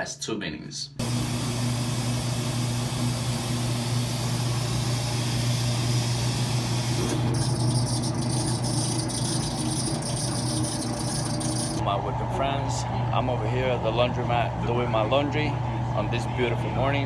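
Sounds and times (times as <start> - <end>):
low machine hum: 1.0 - 17.0.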